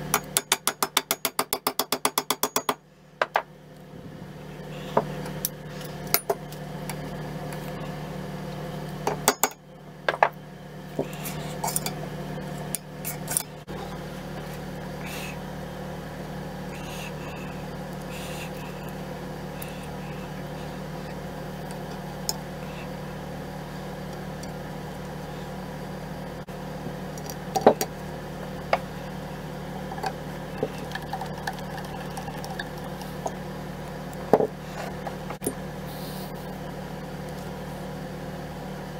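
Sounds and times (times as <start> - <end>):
low hum: 2.9 - 38.9.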